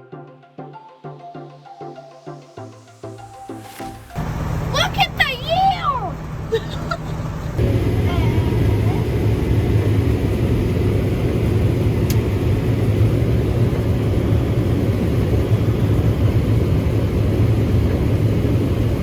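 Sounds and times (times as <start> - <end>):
combine harvester drone: 2.6 - 19.0.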